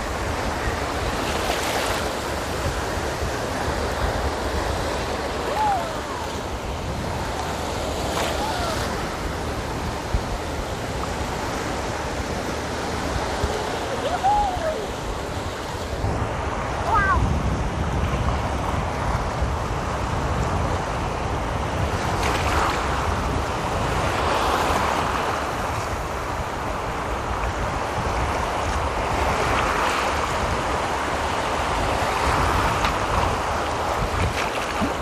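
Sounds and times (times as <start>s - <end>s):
small waves breaking on shore: 0.0s - 35.0s
wind rumbling on microphone: 0.0s - 35.0s.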